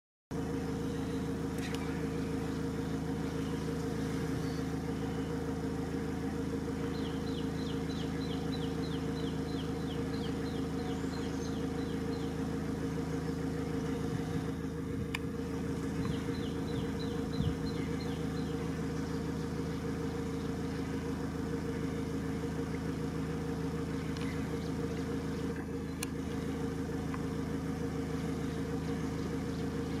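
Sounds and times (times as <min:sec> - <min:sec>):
vehicle engine idling: 0:00.3 - 0:30.0.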